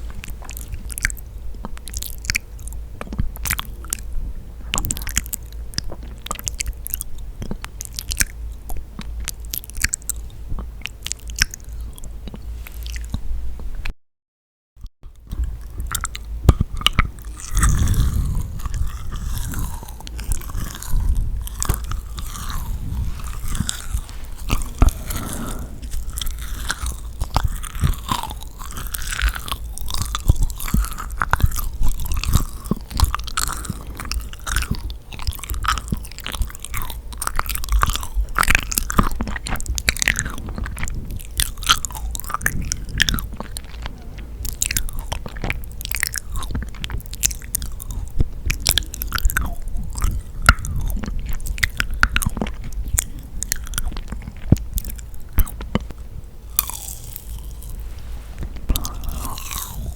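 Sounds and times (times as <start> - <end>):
sticky wet chewing: 0.0 - 4.1, 4.7 - 13.2, 15.3 - 59.9
small mouth clicks: 0.1 - 4.0, 15.3 - 59.9.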